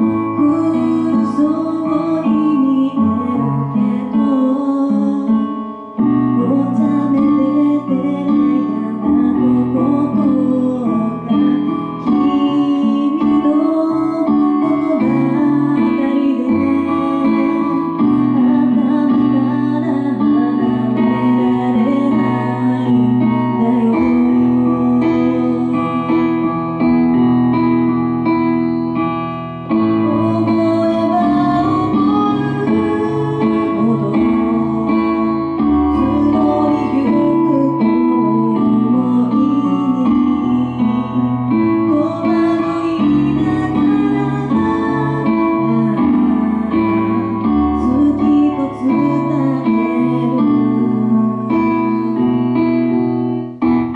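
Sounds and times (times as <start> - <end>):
instrumental accompaniment: 0.0 - 53.9
woman singing into a microphone: 0.0 - 53.9.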